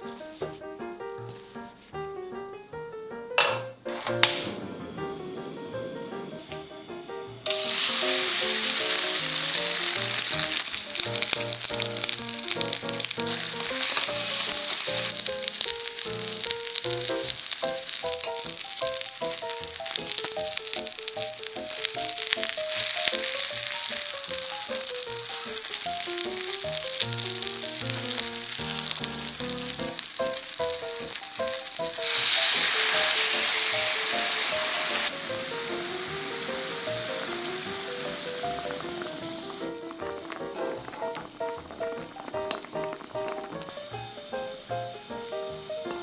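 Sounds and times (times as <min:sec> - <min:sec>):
light background melody: 0:00.0 - 0:46.0
food sizzling in hot oil: 0:03.9 - 0:46.0.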